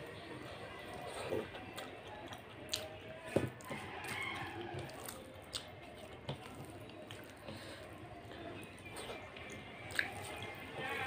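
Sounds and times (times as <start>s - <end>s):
fingers mashing sticky rice: 0.4s - 11.0s.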